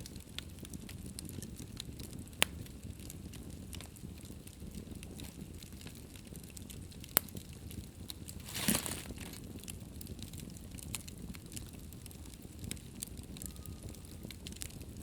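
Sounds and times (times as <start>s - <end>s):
fire crackles and pops: 0.0s - 15.0s
fire rumbling in fireplace: 0.0s - 15.0s
fire hissing flare-up: 1.2s - 14.9s.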